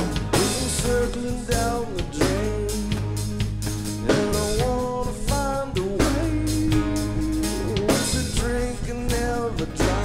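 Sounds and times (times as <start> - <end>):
man singing long held notes: 0.0 - 10.0
rock band playing: 0.0 - 10.0.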